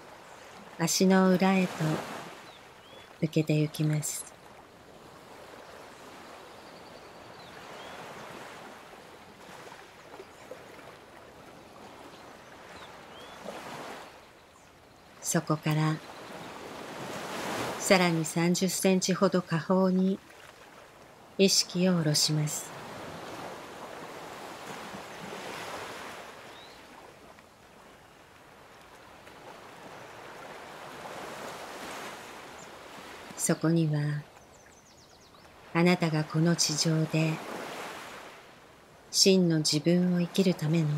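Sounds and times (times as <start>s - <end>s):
rushing water: 0.0s - 6.5s, 7.2s - 34.8s, 35.4s - 40.9s
ocean waves washing: 0.0s - 34.6s, 35.4s - 40.9s.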